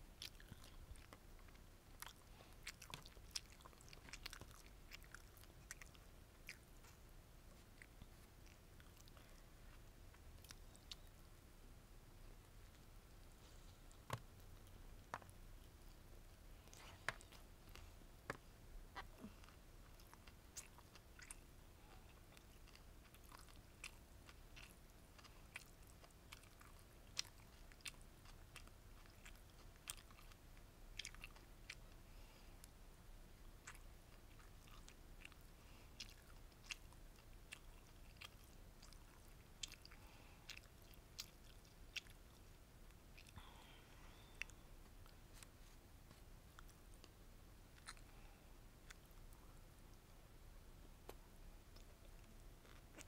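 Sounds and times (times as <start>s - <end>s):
chewing with crisp crunches: 0.0s - 11.3s, 12.6s - 50.1s, 51.0s - 53.0s.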